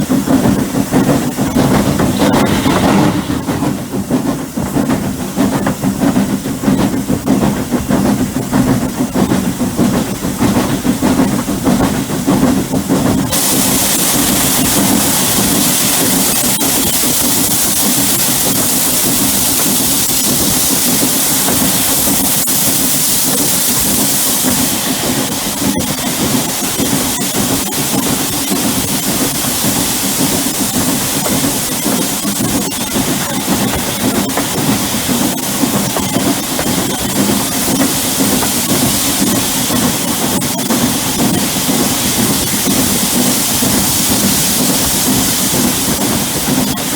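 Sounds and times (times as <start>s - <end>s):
steam hissing: 0.0s - 46.9s
steam locomotive chuffing: 0.0s - 46.9s.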